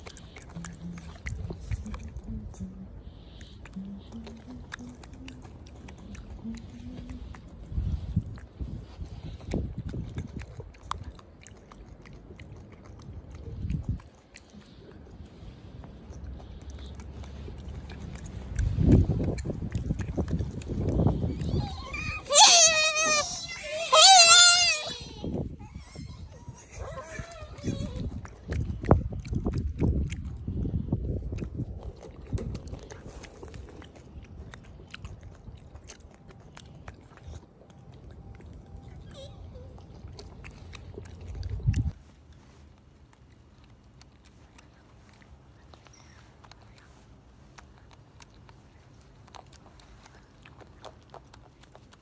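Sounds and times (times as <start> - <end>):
low background rumble: 0.0 - 52.0
monkeys chewing food: 0.0 - 52.0.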